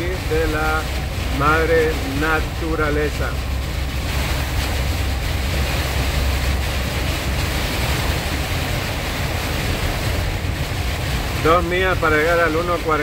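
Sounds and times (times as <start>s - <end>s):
deep constant rumble: 0.0s - 13.0s
rain on car roof: 0.0s - 13.0s
tyre hiss on wet road: 0.0s - 13.0s.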